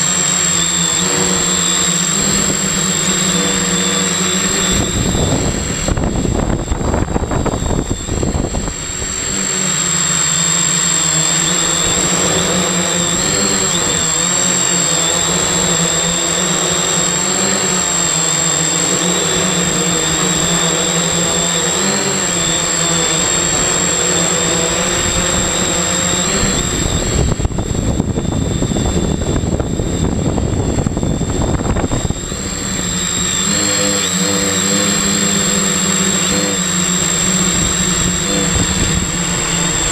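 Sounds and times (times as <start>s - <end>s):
drone motors buzzing: 0.0s - 39.9s.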